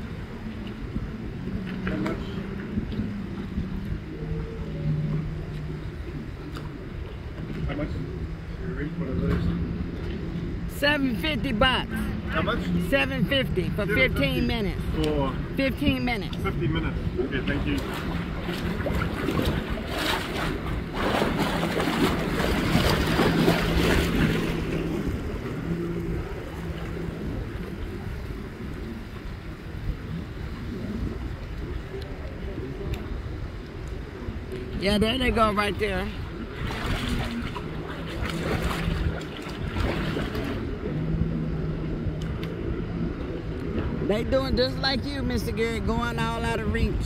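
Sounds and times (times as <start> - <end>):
surf: 0.0 - 47.0
watercraft engine humming: 0.0 - 47.0
waves washing: 0.0 - 47.0
wind buffeting microphone: 0.0 - 47.0.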